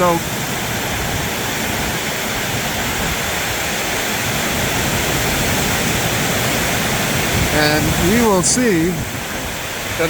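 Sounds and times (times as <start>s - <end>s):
heavy rain on a metal roof: 0.0s - 10.0s.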